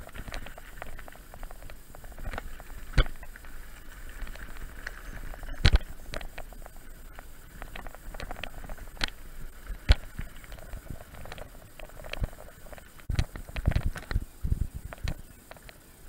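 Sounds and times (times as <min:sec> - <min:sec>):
bike rattling and clicking: 0:00.0 - 0:15.8.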